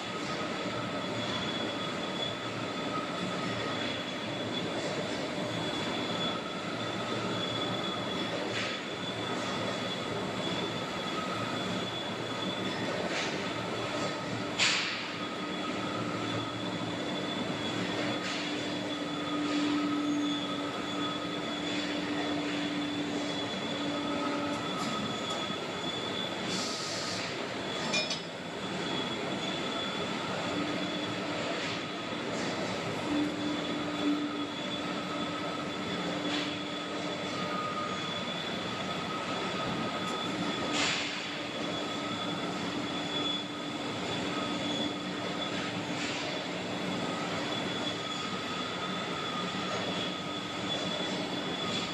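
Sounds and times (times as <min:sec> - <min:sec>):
hydraulic power unit hum and whine: 0:00.0 - 0:51.9.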